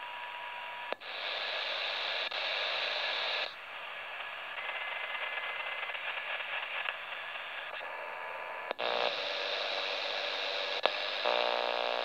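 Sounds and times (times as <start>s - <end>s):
radio receiver hiss: 0.0s - 12.0s.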